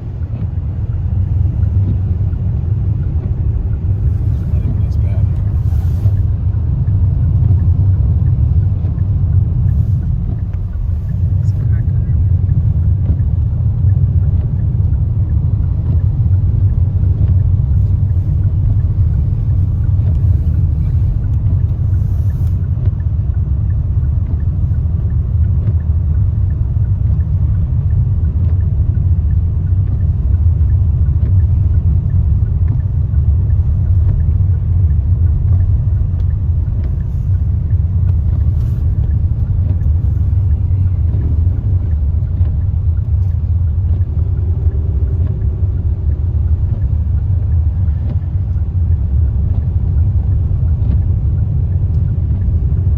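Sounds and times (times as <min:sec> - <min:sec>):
car driving rumble from inside: 0:00.0 - 0:52.9.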